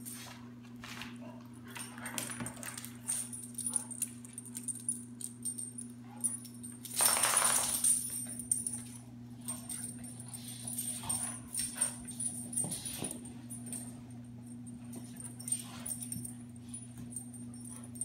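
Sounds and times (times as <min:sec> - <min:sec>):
dogs scuffling and scrabbling: 0:00.0 - 0:18.0.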